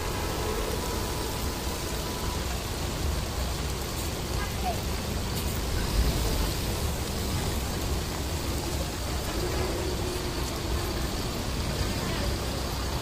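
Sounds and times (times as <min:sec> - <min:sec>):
heavy rain on water: 0:00.0 - 0:13.0.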